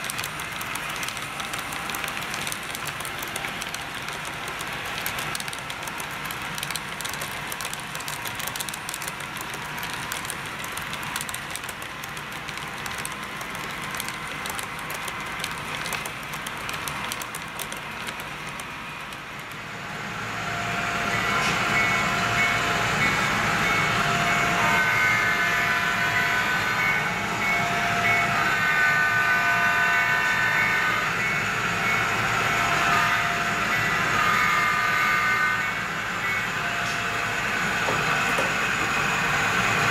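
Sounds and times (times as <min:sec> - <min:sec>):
model train wheels clicking: 0:00.0 - 0:19.8, 0:21.0 - 0:39.9
model train rumble: 0:00.0 - 0:39.9.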